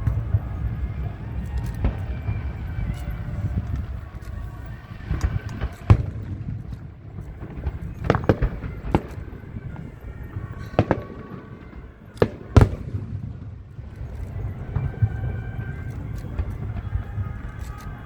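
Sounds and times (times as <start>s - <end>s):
fireworks banging: 0.0s - 18.0s.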